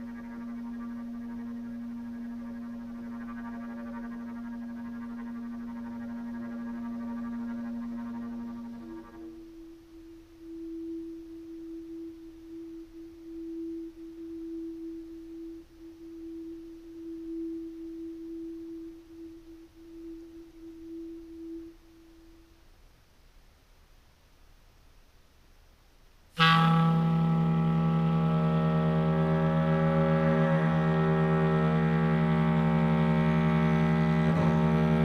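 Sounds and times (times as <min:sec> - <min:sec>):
sustained pure tone: 0:00.0 - 0:23.2, 0:26.4 - 0:35.0.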